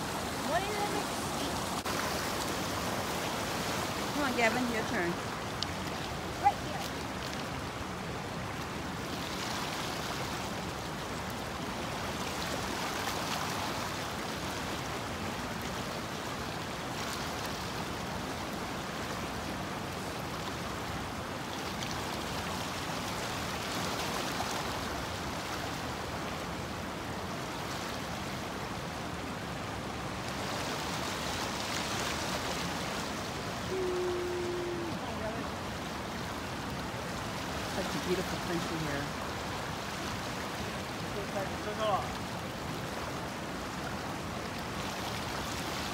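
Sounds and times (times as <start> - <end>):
stream rushing: 0.0 - 45.9.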